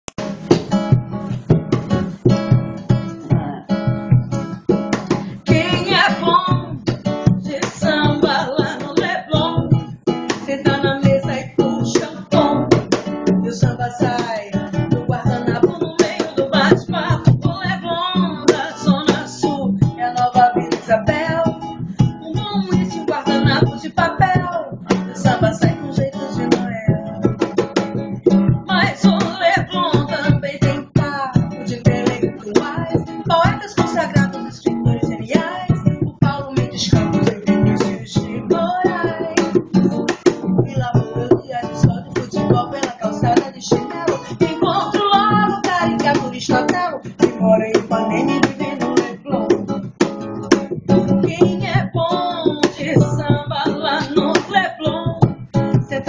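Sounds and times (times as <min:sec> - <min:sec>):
acoustic guitar: 0:00.0 - 0:56.0
person singing: 0:05.0 - 0:27.4, 0:28.7 - 0:39.7, 0:40.5 - 0:49.8, 0:50.9 - 0:56.0.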